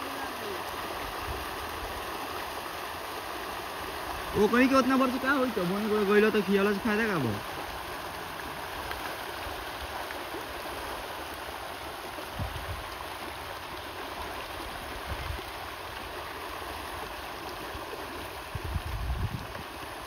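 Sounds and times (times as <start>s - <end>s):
fish splashing at water surface: 0.0s - 18.7s.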